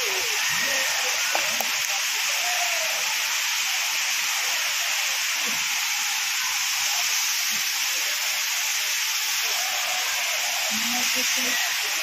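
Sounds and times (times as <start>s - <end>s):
waterfall rushing onto boulders: 0.0s - 12.0s.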